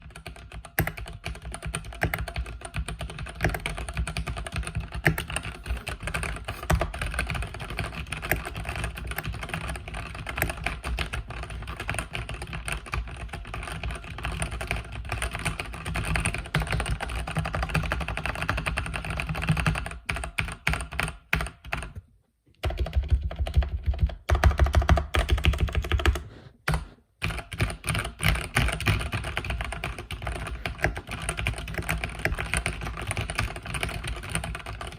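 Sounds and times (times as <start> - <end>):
typing on mechanical keyboard: 0.0 - 34.9.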